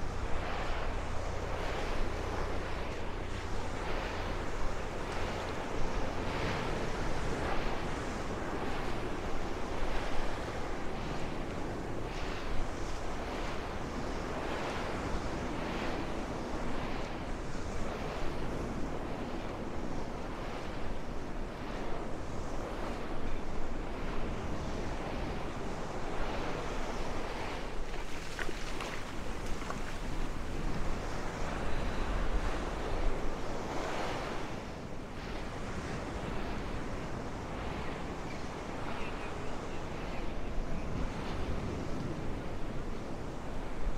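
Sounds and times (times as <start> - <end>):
surf breaking on beach: 0.0 - 43.9
wind rumbling on microphone: 0.0 - 43.9.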